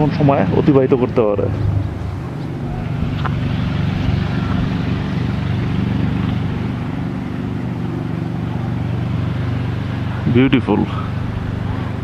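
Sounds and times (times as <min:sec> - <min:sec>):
even rushing noise: 0:00.0 - 0:12.0
low engine drone: 0:00.0 - 0:12.0.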